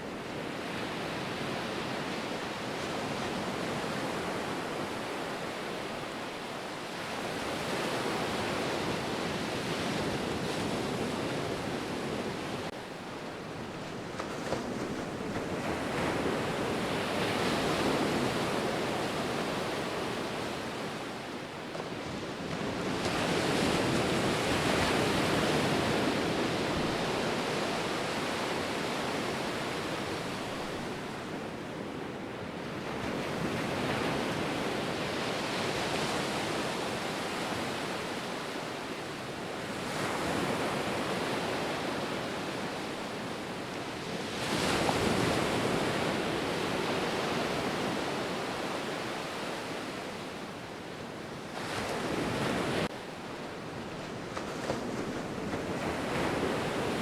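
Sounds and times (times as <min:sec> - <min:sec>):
ocean waves breaking ashore: 0:00.0 - 0:57.0.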